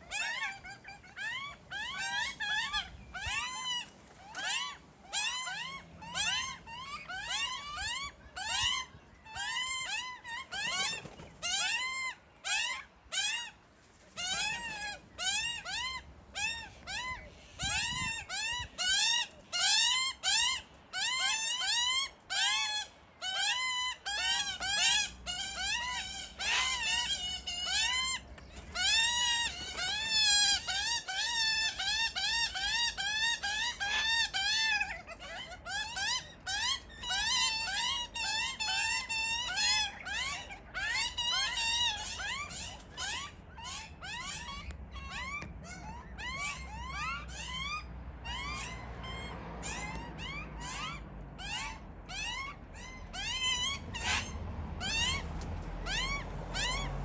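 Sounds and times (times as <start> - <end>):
young magpies begging calls: 0.0 - 13.6, 14.2 - 57.0.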